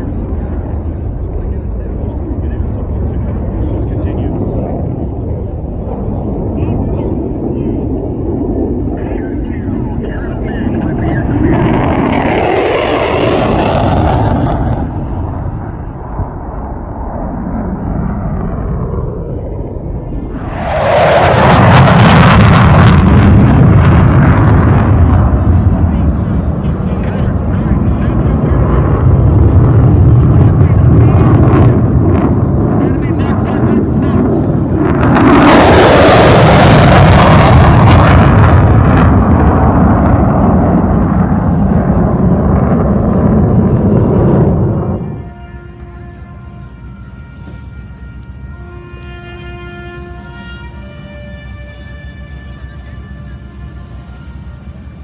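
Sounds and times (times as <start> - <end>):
fighter jet roaring: 0.0 - 55.0.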